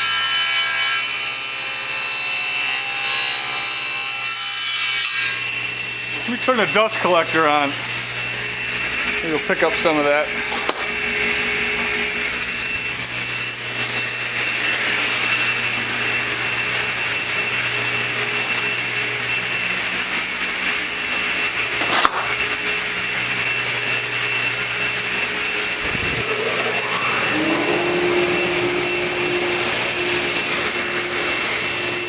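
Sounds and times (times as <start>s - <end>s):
dust collector running: 5.6s - 32.0s.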